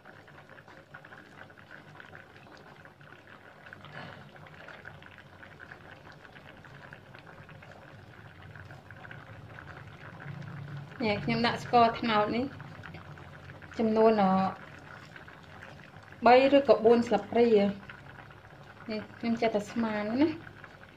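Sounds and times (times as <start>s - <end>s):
water simmering in a pot: 0.0s - 20.9s.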